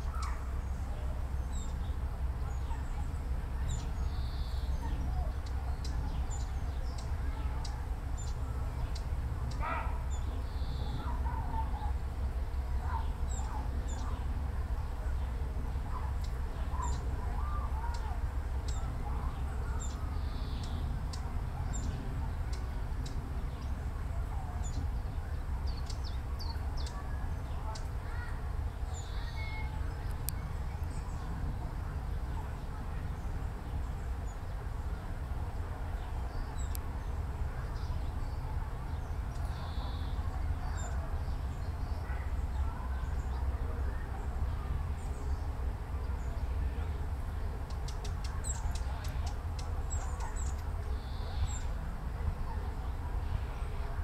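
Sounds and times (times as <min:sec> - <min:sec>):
small birds chirping: 0:00.0 - 0:54.0
steady low rumble: 0:00.0 - 0:54.0.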